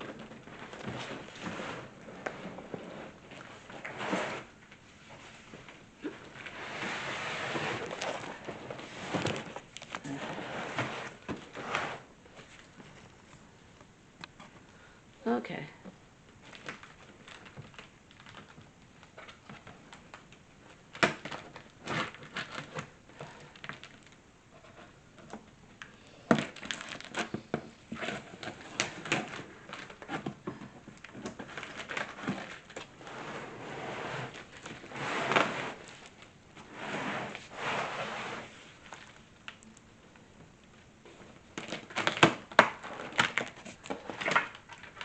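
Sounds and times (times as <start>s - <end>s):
cardboard rustling and crinkling: 0.0s - 13.4s, 16.4s - 25.6s, 26.3s - 39.6s, 40.7s - 45.0s.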